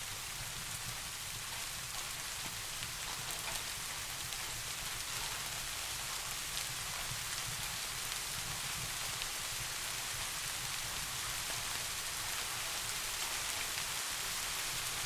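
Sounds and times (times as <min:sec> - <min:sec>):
soft rain hiss: 0:00.0 - 0:15.0
raindrop ticks: 0:00.6 - 0:13.9.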